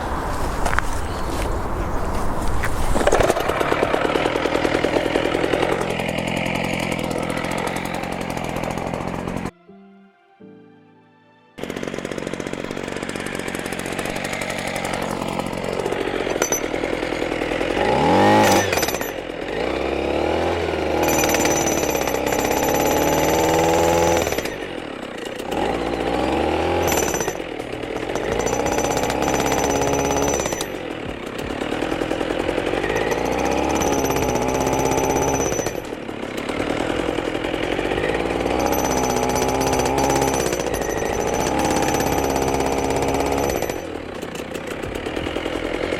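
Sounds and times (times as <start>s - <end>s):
petrol breaker engine revving: 0.0s - 9.5s, 11.6s - 45.9s.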